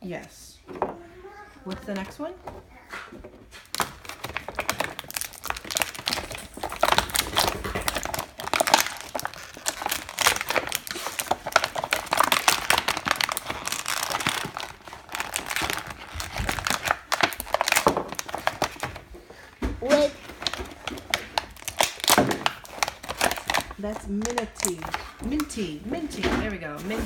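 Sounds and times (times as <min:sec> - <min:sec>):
packaging crinkling: 0:03.5 - 0:27.0.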